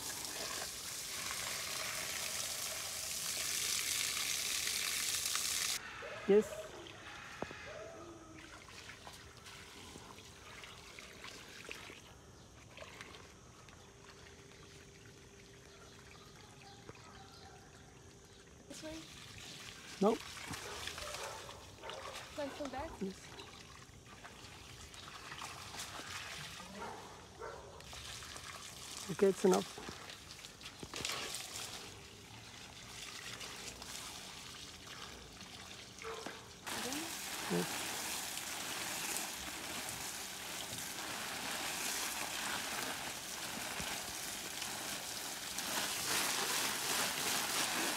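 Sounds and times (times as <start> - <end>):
water trickling from hose: 0.0 - 7.6, 8.2 - 47.9.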